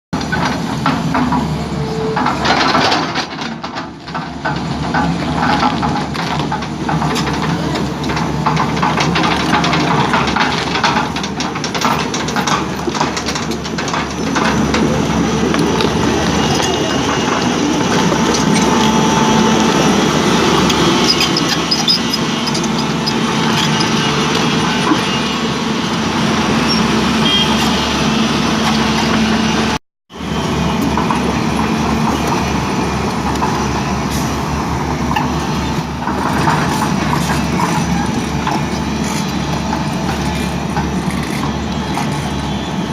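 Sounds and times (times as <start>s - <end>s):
excavator diesel engine running: 0.2s - 42.9s.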